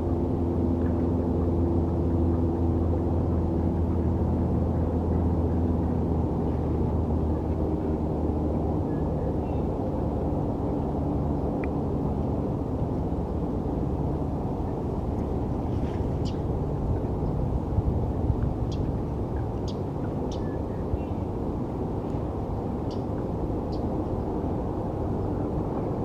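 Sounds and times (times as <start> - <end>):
distant city engine drone: 0.0 - 26.0.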